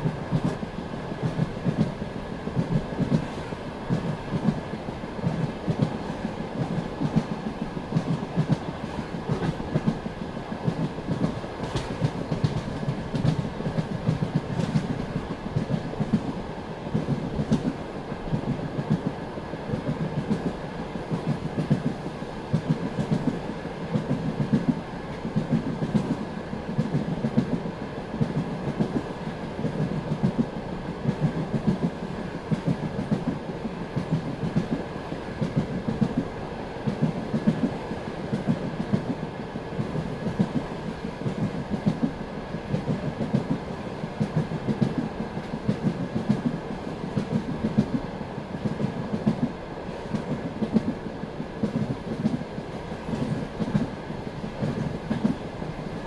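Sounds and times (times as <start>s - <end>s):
train running rumble and hum: 0.0s - 56.0s.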